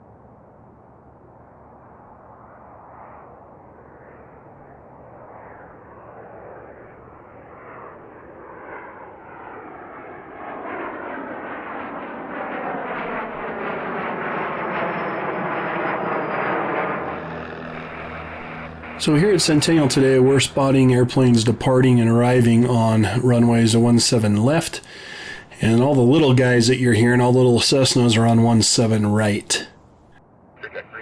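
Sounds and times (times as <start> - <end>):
jet airplane passing: 0.0 - 31.0.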